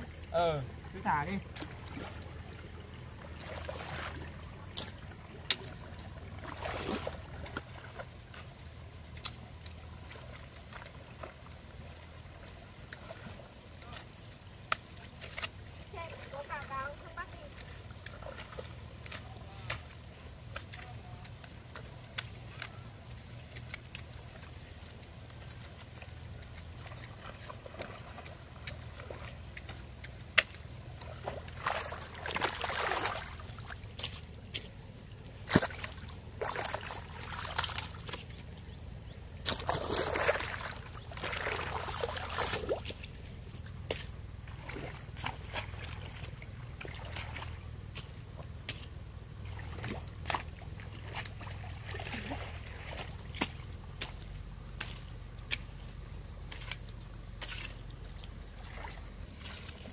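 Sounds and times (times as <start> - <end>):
muddy water sloshing and splashing: 0.0 - 59.9.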